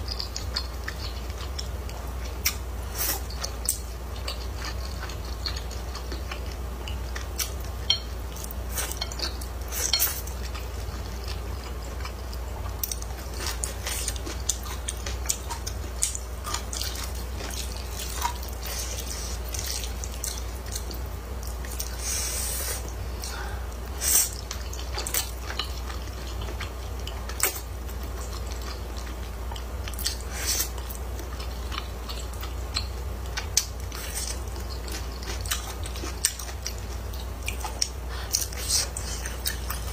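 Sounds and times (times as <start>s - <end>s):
lip smacks and chewing: 0.0s - 22.0s, 22.8s - 39.9s.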